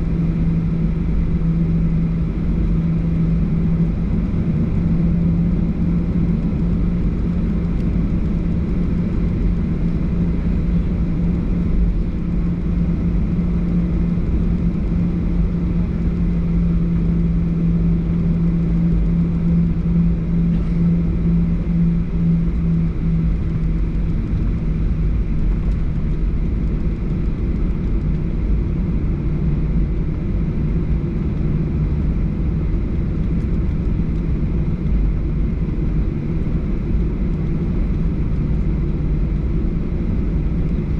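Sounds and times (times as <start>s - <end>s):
jet engine rumble inside cabin: 0.0s - 40.9s.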